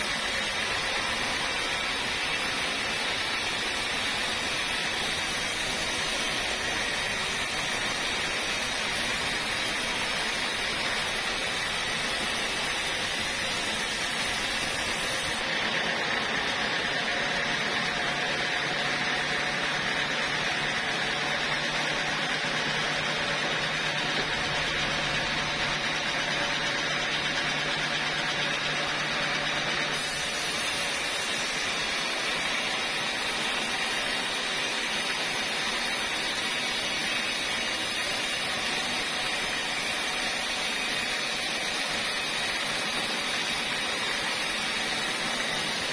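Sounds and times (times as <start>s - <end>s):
band saw cutting log: 0.0s - 45.9s.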